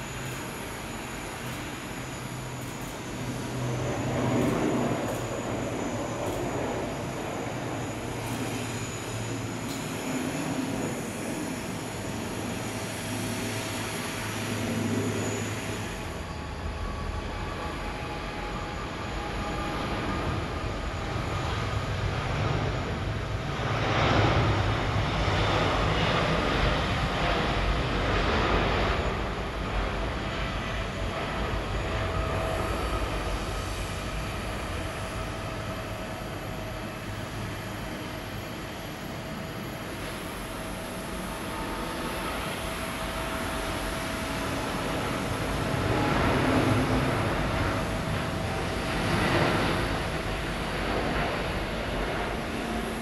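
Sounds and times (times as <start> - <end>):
jet airliner taking off: 0.0 - 53.0
turboprop aircraft climbing: 0.0 - 53.0.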